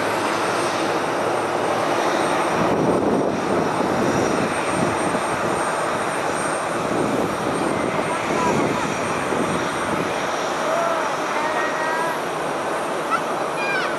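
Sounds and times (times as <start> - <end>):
turboprop engine and propeller drone: 0.0 - 13.9.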